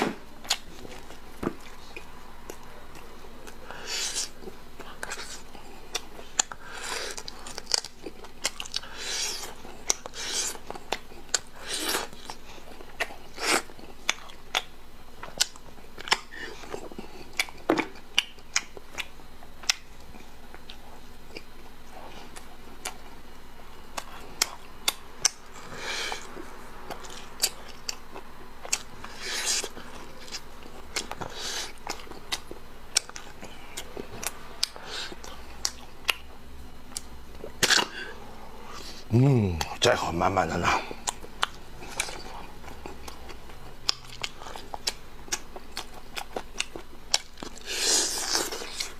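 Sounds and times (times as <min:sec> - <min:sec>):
chewing and sucking: 0:00.0 - 0:39.8, 0:40.5 - 0:48.9.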